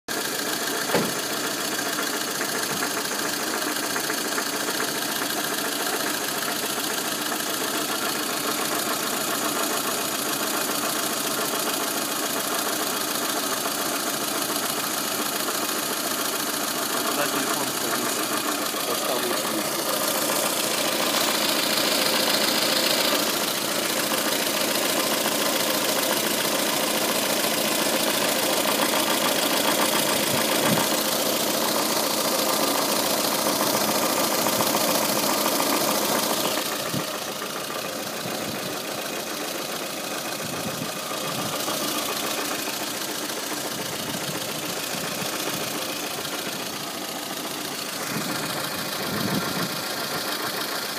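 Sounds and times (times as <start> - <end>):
car engine idling: 0.1 - 50.9.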